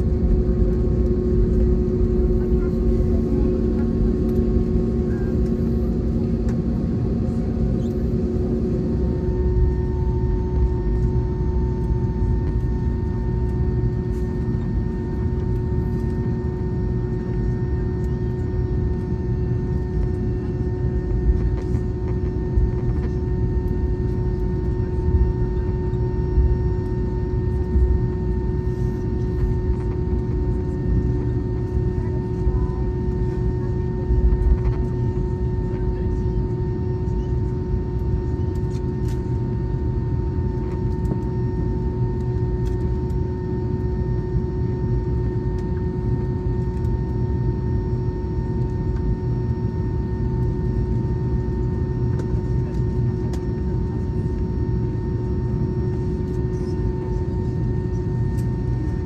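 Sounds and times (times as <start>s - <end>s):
aircraft cabin rumble and hum: 0.0s - 59.0s.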